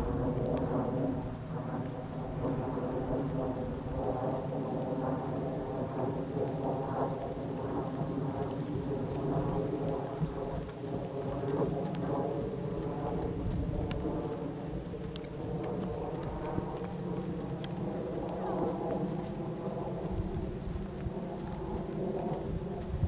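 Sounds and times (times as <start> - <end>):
horse hoofbeats on grass: 0.0 - 23.0.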